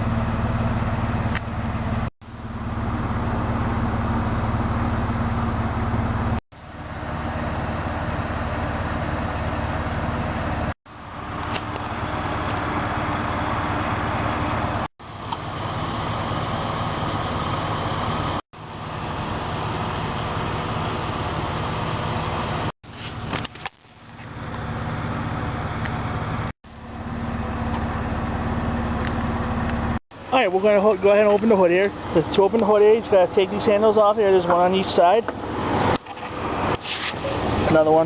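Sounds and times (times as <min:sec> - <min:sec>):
vehicle engine idling: 0:00.0 - 0:38.0.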